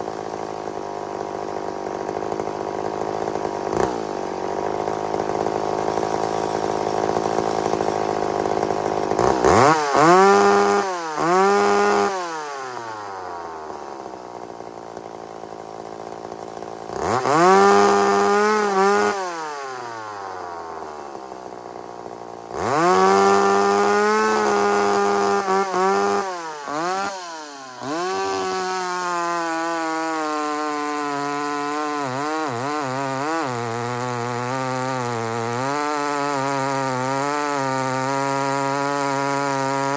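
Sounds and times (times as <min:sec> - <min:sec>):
chainsaw cutting log: 0:00.0 - 0:39.9
chainsaw revving and idling: 0:00.0 - 0:39.9.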